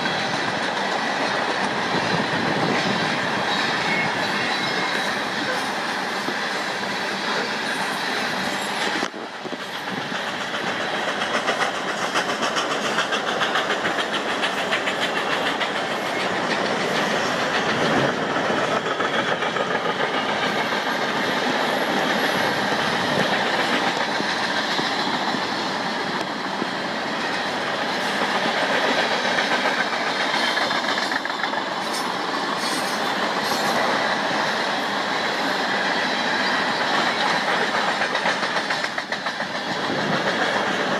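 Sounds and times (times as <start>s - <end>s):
freight train rolling past: 0.0s - 40.9s
wheels clacking over rail joints: 0.0s - 40.9s.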